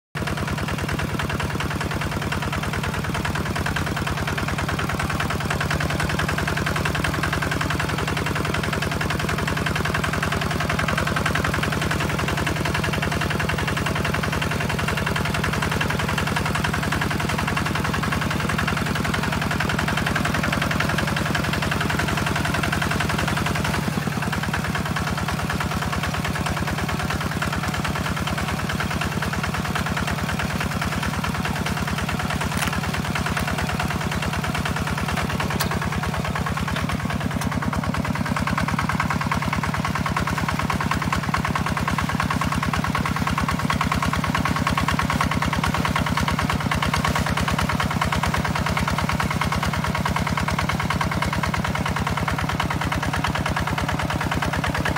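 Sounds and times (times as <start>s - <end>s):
diesel engine chugging: 0.2s - 54.9s.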